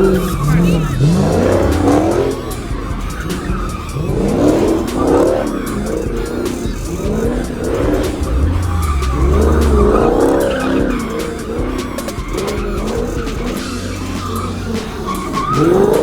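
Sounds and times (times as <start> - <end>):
car engines revving: 0.0 - 16.0
tires squealing: 0.0 - 16.0.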